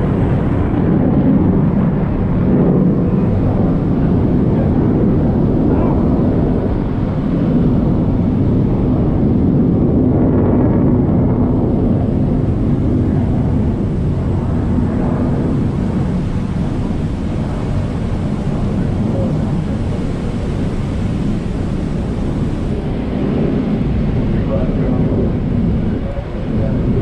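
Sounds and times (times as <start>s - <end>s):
churning wake water: 0.0s - 27.0s
wind on microphone: 0.0s - 27.0s.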